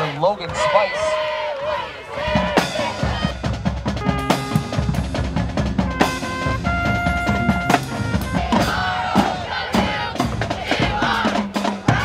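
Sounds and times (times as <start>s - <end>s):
horns holding long notes: 0.9s - 11.2s
pep band playing: 2.1s - 12.0s
drum roll: 2.2s - 12.0s.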